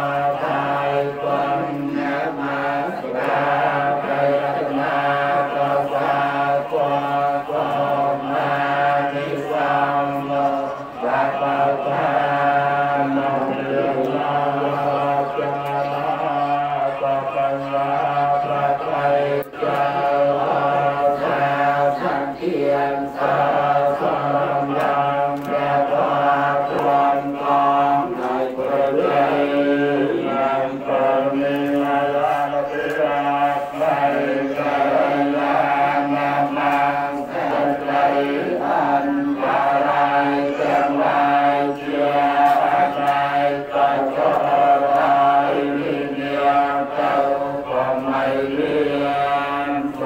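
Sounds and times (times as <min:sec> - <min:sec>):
monks chanting in monotone: 0:00.0 - 0:50.0.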